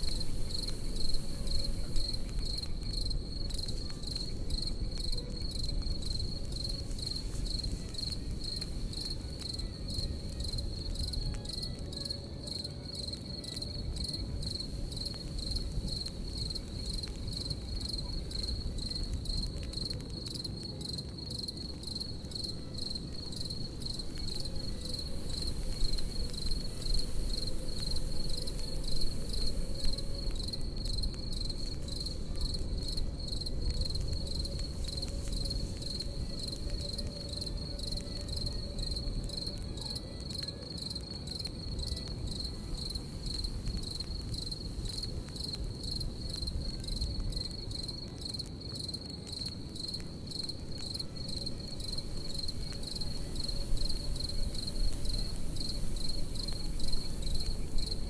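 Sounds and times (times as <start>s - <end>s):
campfire crackling: 0.0s - 58.0s
crickets chirping: 0.0s - 58.0s.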